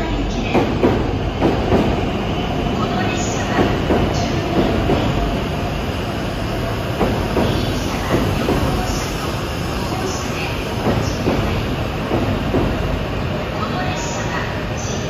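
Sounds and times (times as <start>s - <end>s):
train cars rumbling: 0.0s - 15.0s.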